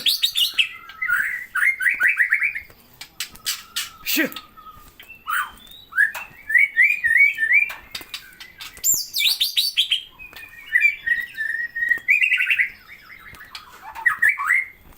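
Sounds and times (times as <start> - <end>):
songbird singing: 0.0 - 14.8.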